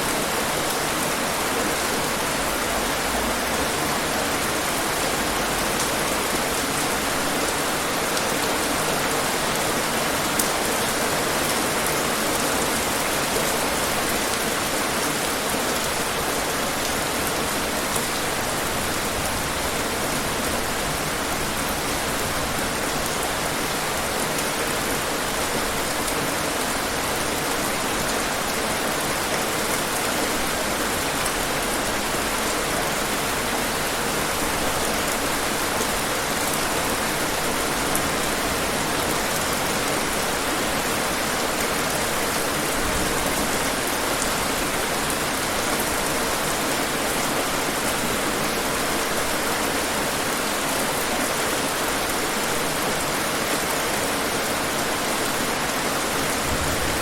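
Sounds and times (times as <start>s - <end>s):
rain pattering: 0.1s - 57.0s.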